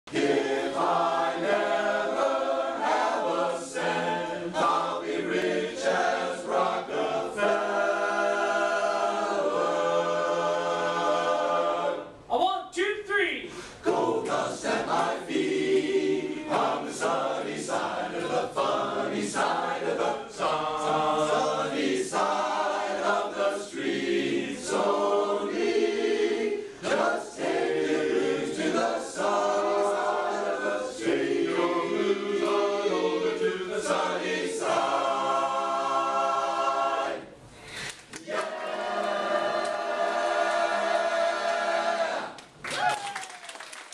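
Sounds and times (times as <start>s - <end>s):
men's chorus singing a cappella: 0.1s - 12.2s, 13.8s - 37.4s, 38.2s - 42.4s.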